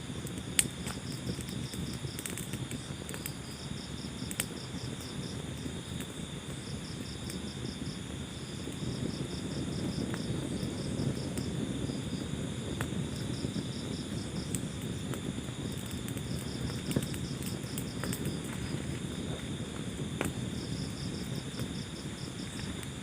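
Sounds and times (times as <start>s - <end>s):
wood fire rumbling and crackling: 0.0s - 23.0s.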